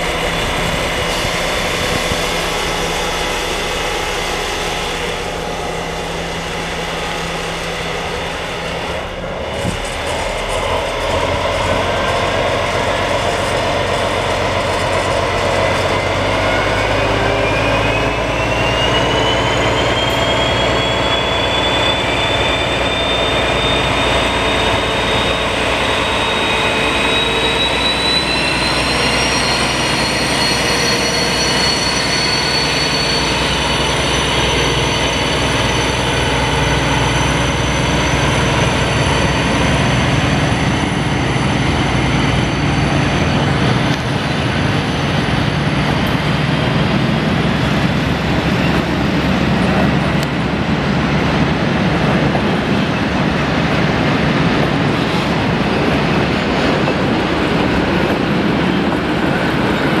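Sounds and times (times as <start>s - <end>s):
diesel locomotive engine drone: 0.0s - 60.0s.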